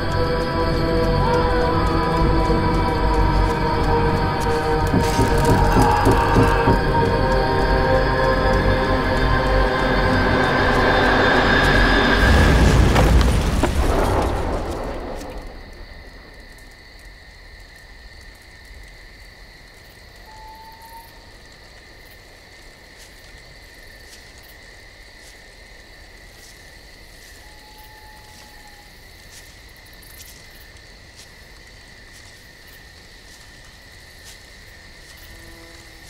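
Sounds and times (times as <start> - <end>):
crickets and frogs trilling: 0.0 - 36.0.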